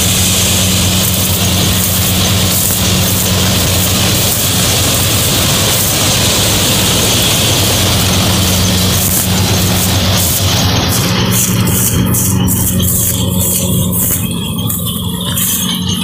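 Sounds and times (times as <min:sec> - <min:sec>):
threshing machinery rushing: 0:00.0 - 0:16.0
tractor engine hum: 0:00.0 - 0:16.0.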